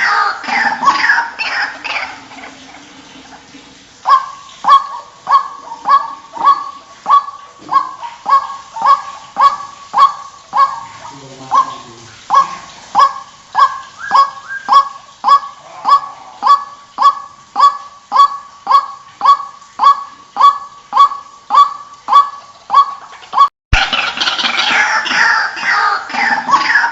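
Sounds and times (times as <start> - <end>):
waterhen croaking call: 0.0 - 26.9.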